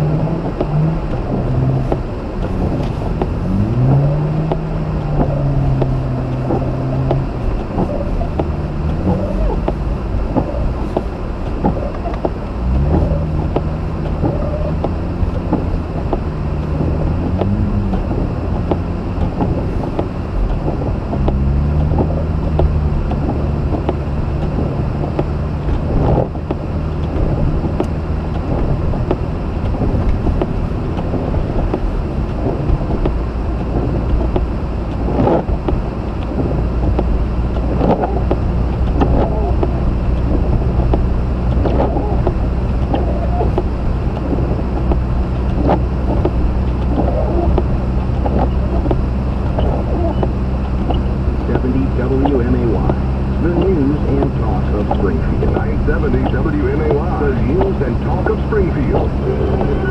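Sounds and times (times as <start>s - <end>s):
car engine running: 0.0s - 59.9s
tyre and road noise: 0.0s - 59.9s.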